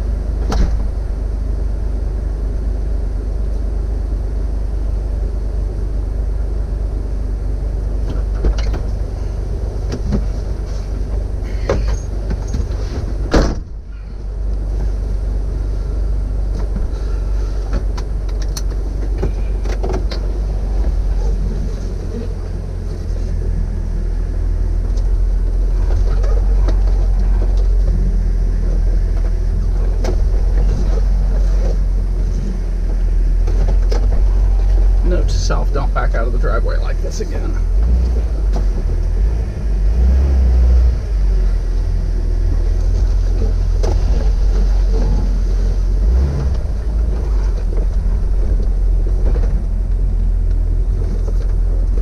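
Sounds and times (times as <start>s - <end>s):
car engine rumbling: 0.0s - 52.0s.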